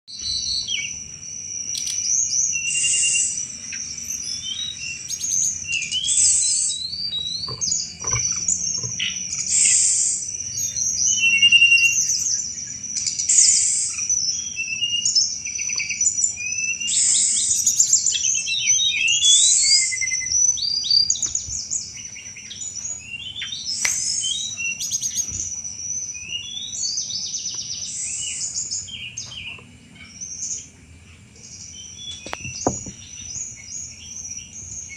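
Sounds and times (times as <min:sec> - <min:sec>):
steady high-pitched hum: 0:00.1 - 0:34.9.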